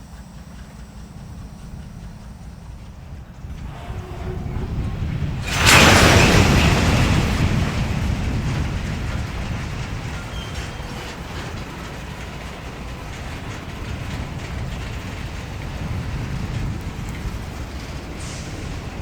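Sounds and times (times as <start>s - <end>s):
freight train cars rolling: 0.0s - 19.0s.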